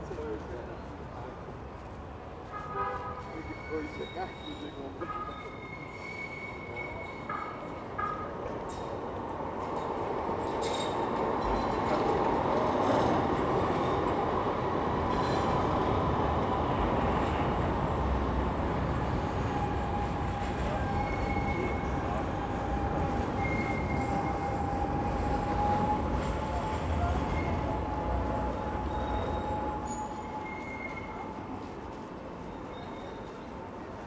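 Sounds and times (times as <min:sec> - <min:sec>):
tram passing rumble: 0:00.0 - 0:34.0
wheels squealing on rails: 0:02.4 - 0:09.0, 0:09.7 - 0:34.0.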